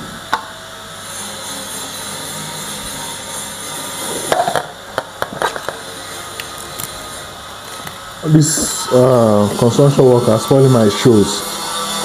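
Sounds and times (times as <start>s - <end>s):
construction machinery drone: 0.0s - 12.0s.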